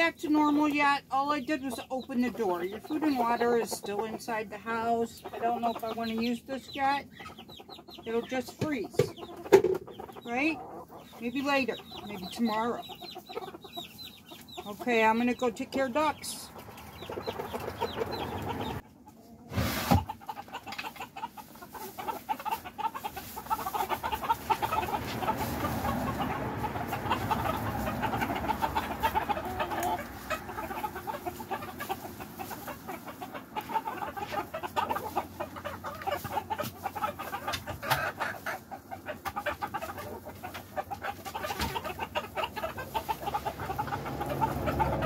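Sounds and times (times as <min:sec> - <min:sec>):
chickens clucking and chirping: 0:00.0 - 0:45.0.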